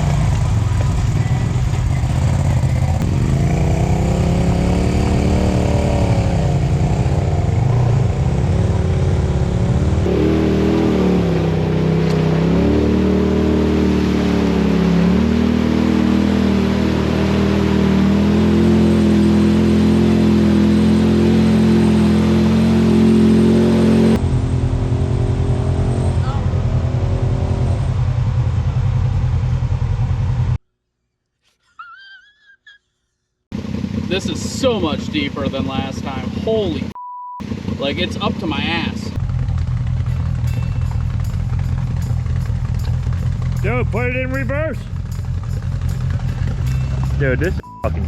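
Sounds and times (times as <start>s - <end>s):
utility vehicle engine revving: 0.0s - 30.6s, 33.5s - 48.0s.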